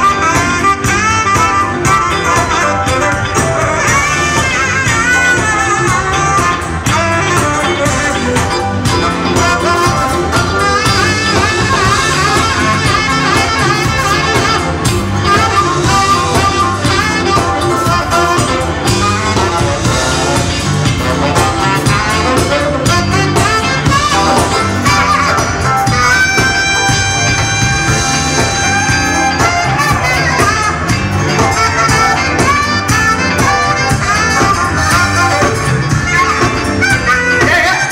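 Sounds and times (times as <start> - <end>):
live funk band playing: 0.0 - 37.9
saxophone solo: 0.0 - 37.9.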